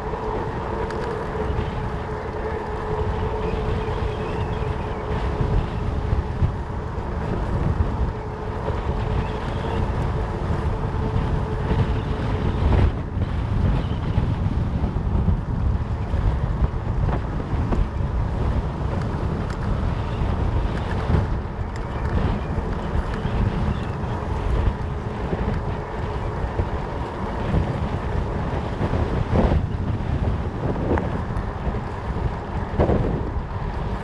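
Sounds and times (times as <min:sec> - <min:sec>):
bike tyres rumbling: 0:00.0 - 0:34.0
wind buffeting microphone: 0:00.0 - 0:34.0.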